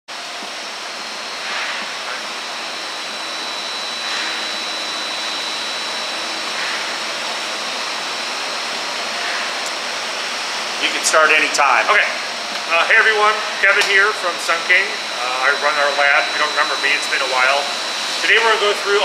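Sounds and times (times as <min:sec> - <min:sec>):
high-pitched machine whine: 0:00.1 - 0:19.0
machinery rushing hiss: 0:00.8 - 0:19.0.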